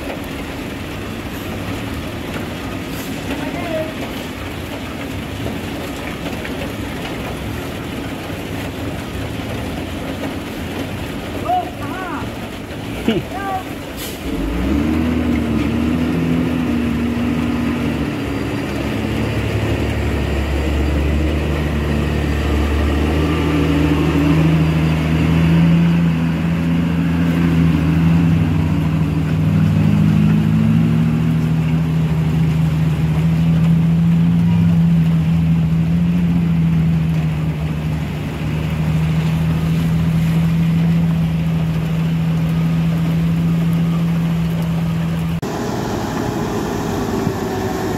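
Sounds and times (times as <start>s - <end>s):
truck diesel engine labouring: 0.0s - 47.9s.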